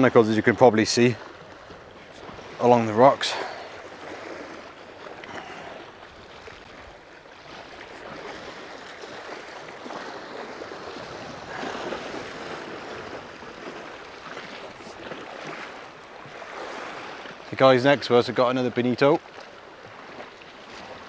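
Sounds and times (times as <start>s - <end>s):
sea waves washing against rocks: 0.0s - 21.0s.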